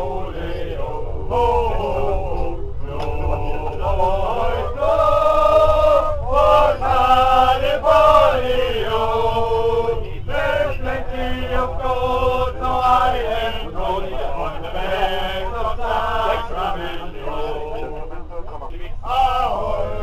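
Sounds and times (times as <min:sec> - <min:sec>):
men chanting in unison: 0:00.0 - 0:20.0
train rumbling: 0:00.0 - 0:20.0.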